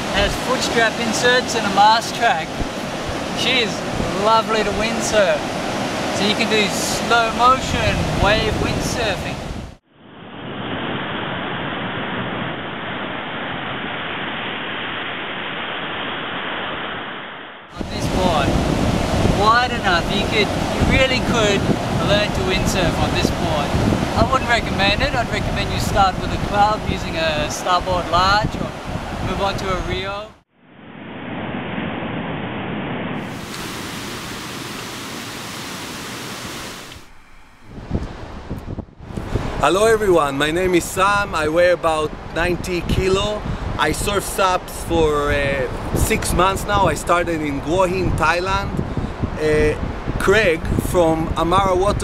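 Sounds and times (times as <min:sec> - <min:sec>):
wind on microphone: 0:00.0 - 0:17.1, 0:17.7 - 0:52.0
surf breaking on shore: 0:00.0 - 0:30.2, 0:31.2 - 0:50.4.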